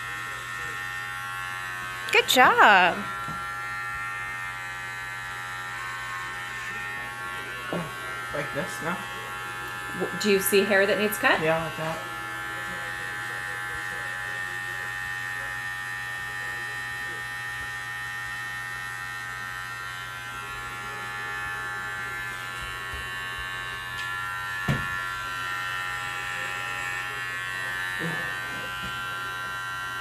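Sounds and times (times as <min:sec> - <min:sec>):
electric hair clippers buzzing: 0:00.0 - 0:30.0.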